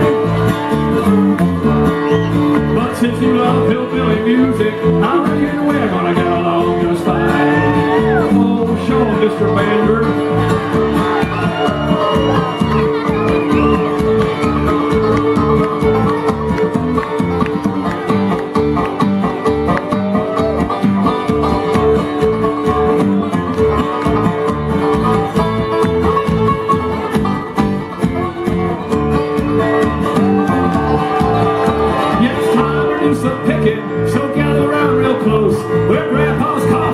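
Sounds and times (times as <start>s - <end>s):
bluegrass band playing: 0.0s - 36.9s
plucked banjo: 0.0s - 36.9s.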